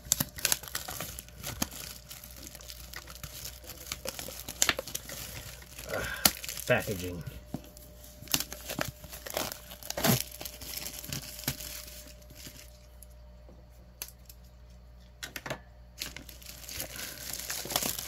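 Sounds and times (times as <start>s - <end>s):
plastic shrink wrap crinkling and tearing: 0.0s - 13.1s, 16.0s - 18.0s.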